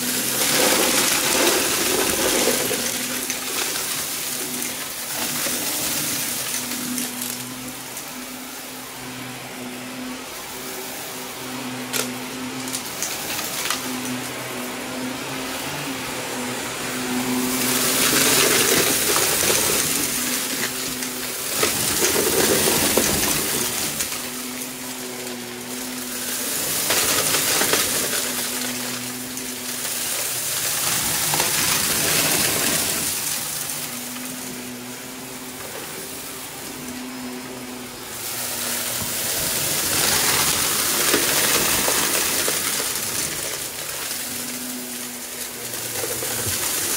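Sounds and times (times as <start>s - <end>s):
debris rattling through vacuum: 0.0s - 46.9s
vacuum cleaner motor hum: 0.0s - 46.9s.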